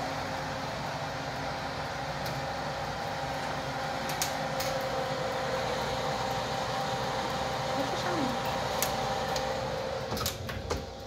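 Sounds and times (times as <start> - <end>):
oven fan humming: 0.0 - 11.0.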